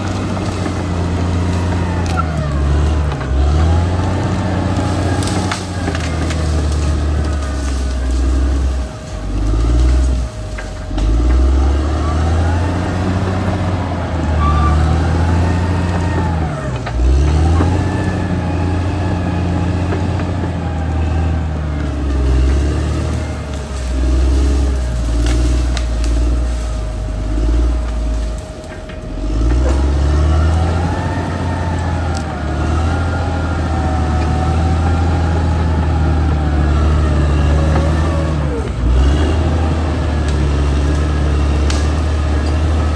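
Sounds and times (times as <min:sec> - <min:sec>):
bulldozer diesel engine: 0:00.0 - 0:42.9.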